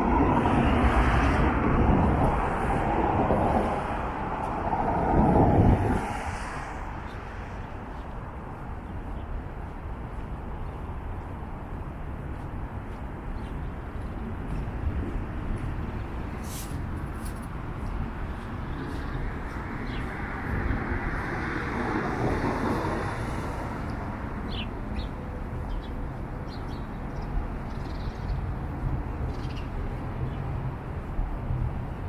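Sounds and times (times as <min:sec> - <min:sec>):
traffic hum: 0:00.0 - 0:32.0
vehicle passing: 0:00.0 - 0:32.0.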